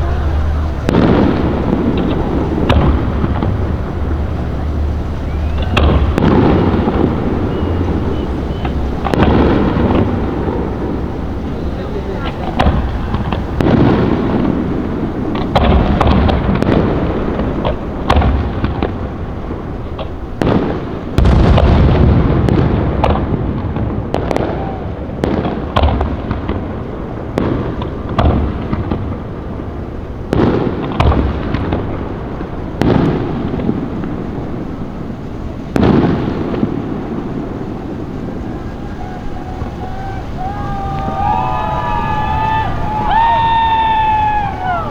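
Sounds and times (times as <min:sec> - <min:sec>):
fireworks bangs with rumble: 0:00.0 - 0:44.9.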